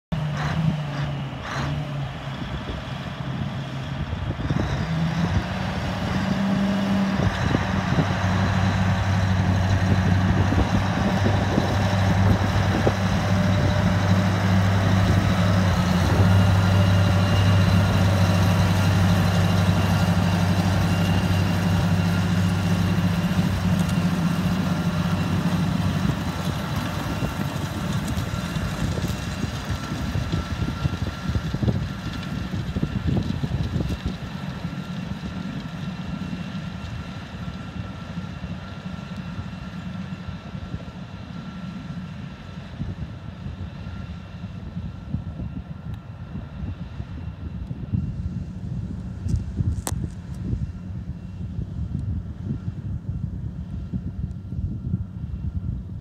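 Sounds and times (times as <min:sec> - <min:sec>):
tractor diesel engine under load: 0:00.1 - 0:56.0.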